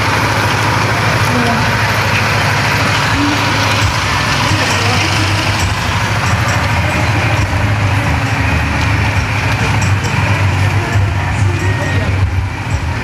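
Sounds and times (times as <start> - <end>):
continuous low rumble: 0.0 - 13.0
crowd noise: 0.0 - 13.0.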